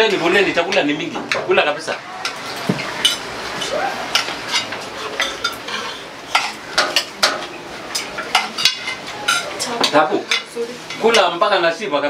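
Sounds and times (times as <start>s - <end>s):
metal spoons clinking on pots: 0.0s - 3.3s, 4.1s - 11.4s.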